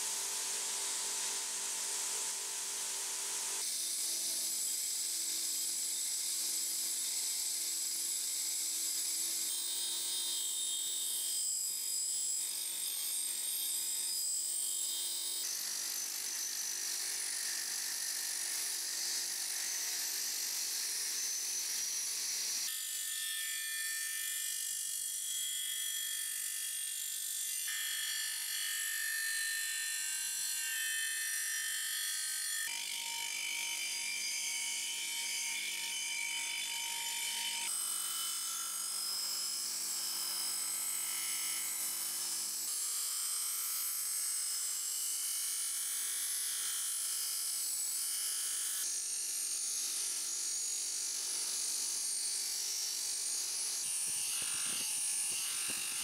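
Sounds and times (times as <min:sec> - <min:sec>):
bench grinder motor hum: 0:00.0 - 0:23.0, 0:29.6 - 0:56.0.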